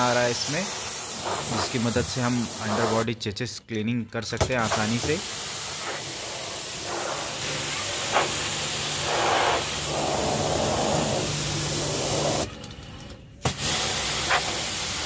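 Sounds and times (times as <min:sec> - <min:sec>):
pressure washer water hiss: 0:00.0 - 0:03.1, 0:04.6 - 0:12.5, 0:13.5 - 0:15.0.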